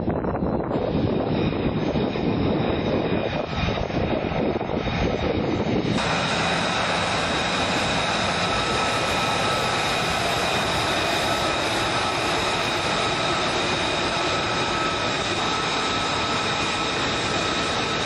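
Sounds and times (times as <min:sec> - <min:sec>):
high-pitched jet engine whine: 0:00.0 - 0:18.0
jet rumbling on runway: 0:00.0 - 0:18.0.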